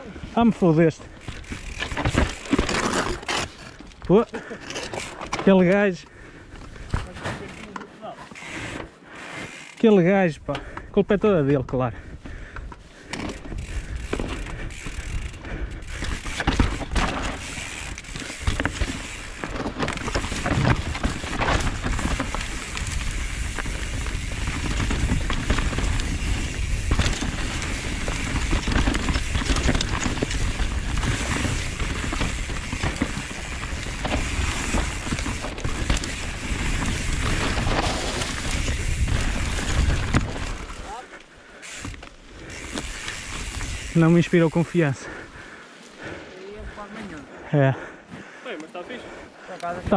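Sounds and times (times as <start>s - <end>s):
bike rattling over rocks: 0.0s - 10.8s, 11.4s - 46.9s.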